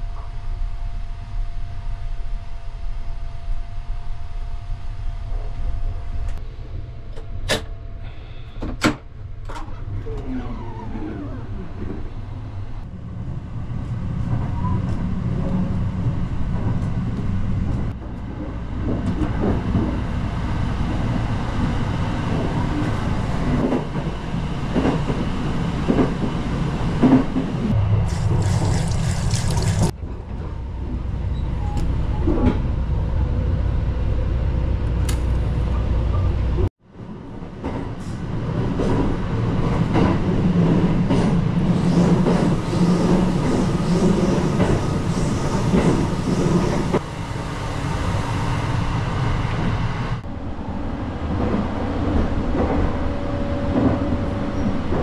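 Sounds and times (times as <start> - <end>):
train wheels rumbling on rail: 5.3 - 28.7, 29.8 - 55.0.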